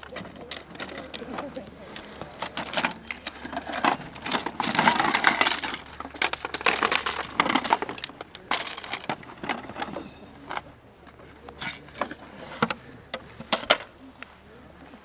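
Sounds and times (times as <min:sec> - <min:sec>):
kayak frame parts clattering: 0:00.0 - 0:15.0.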